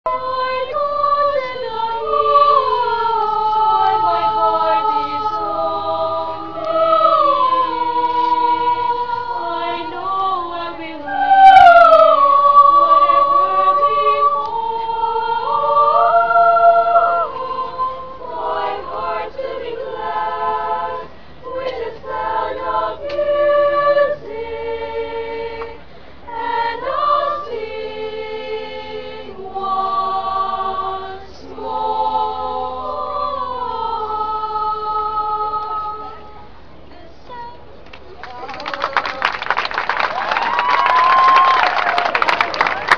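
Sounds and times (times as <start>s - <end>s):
choir singing unaccompanied: 0.1s - 37.4s.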